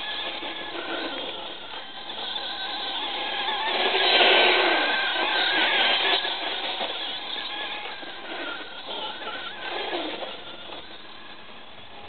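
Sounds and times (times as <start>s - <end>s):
toy truck motor revving: 0.0s - 12.0s.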